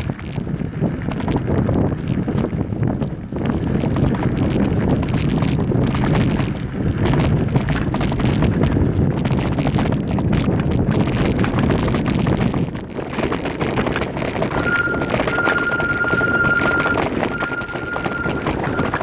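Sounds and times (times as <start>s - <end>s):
bike rattling over rough ground: 0.0s - 19.0s
wind buffeting microphone: 0.0s - 19.0s.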